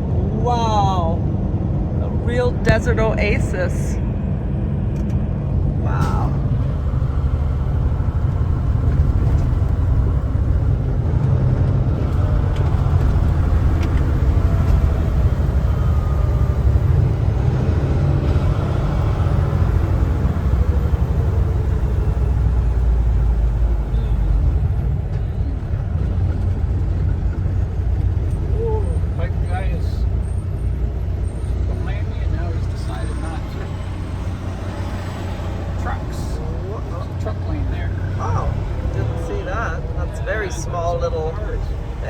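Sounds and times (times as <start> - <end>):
truck engine and road rumble: 0.0 - 42.0.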